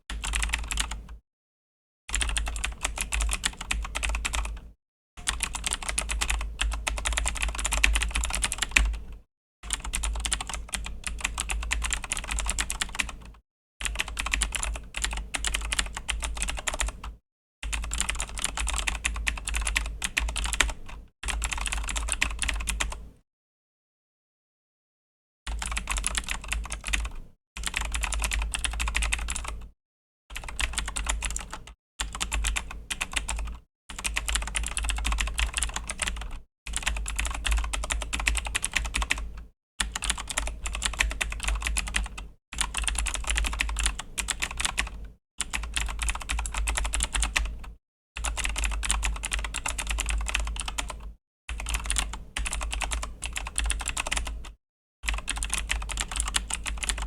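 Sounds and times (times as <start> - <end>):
clicky mechanical keyboard typing: 0.1 - 1.2, 2.1 - 23.0, 25.5 - 29.7, 30.4 - 57.0.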